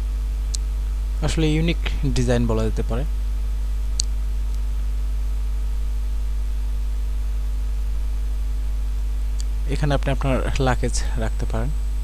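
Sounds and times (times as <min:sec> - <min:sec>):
mains hum with hiss: 0:00.0 - 0:12.0.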